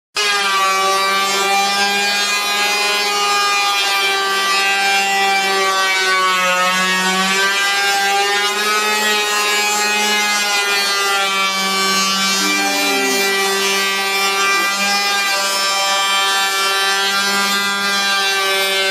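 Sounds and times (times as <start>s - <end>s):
power planer whining on wood: 0.2s - 18.9s.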